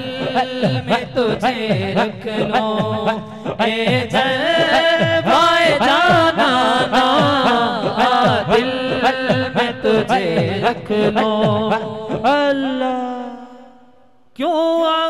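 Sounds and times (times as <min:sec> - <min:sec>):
rhythmic group chant: 0:00.0 - 0:13.0
men singing devotional song: 0:00.0 - 0:13.8.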